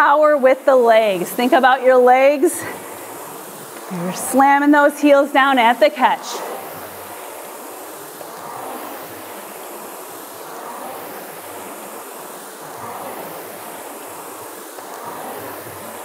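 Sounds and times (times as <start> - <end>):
rowing machine flywheel whooshing: 0.0 - 16.0.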